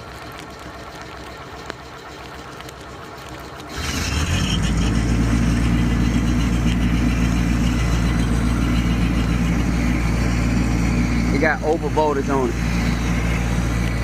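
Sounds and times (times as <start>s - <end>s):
diesel generator engine: 0.0s - 14.0s.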